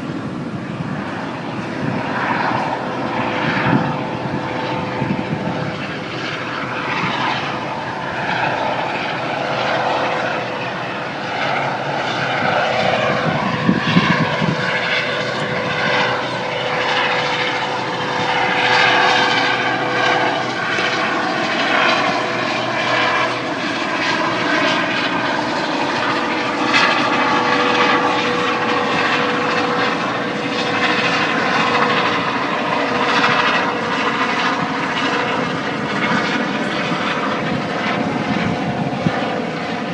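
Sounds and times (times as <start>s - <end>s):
helicopter engine whine: 0.0s - 39.9s
rotor and airflow noise: 0.0s - 39.9s.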